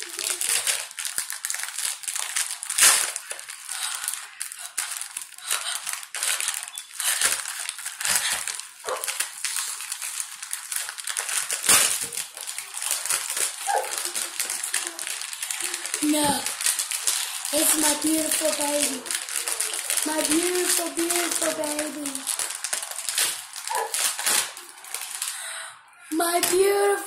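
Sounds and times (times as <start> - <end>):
plastic packet crackling: 0.0 - 27.0.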